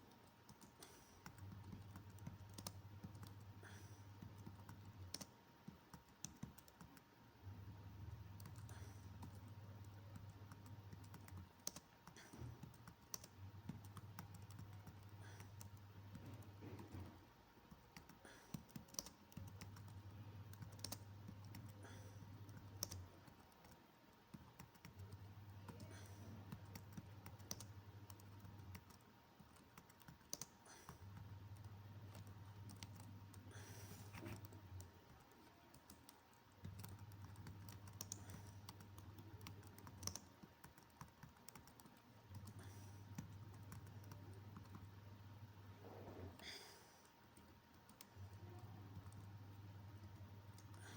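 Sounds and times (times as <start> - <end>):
keyboard typing: 0.1 - 7.1, 8.0 - 45.0, 47.4 - 49.3, 49.9 - 50.9.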